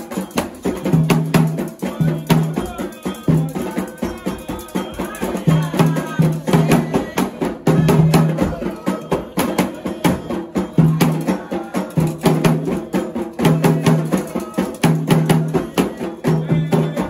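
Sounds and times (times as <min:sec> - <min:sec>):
hand drums: 0:00.0 - 0:17.0
struck metal bell: 0:00.0 - 0:17.0.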